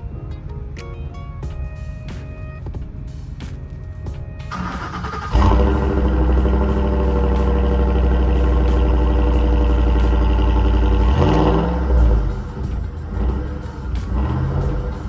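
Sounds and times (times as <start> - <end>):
truck engine idling and revving: 0.0 - 15.0.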